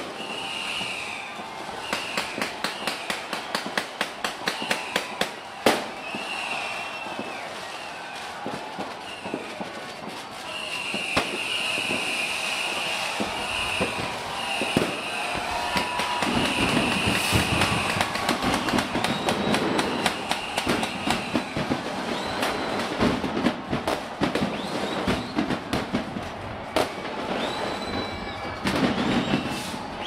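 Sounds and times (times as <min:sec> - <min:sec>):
distant fireworks bangs and crackles: 0:00.0 - 0:30.0
high firework whistles: 0:00.0 - 0:30.0.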